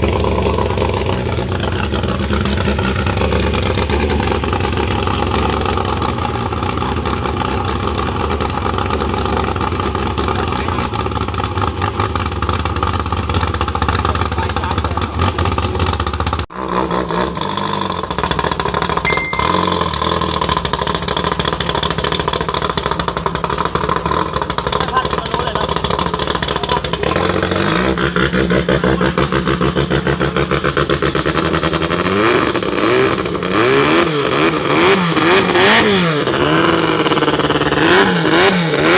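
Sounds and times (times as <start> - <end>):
racing boat engine revving: 0.0 - 18.6, 19.4 - 38.9.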